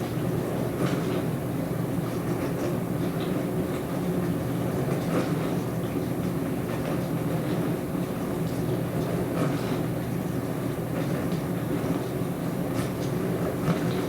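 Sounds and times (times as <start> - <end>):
dishwasher churning hum: 0.0 - 14.0.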